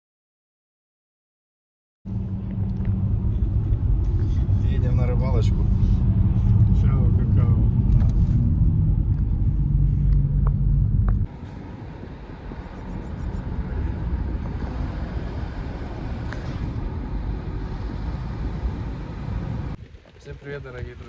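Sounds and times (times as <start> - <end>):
car engine and road rumble: 2.1 - 19.8
quieter steady rumbling: 2.1 - 21.0.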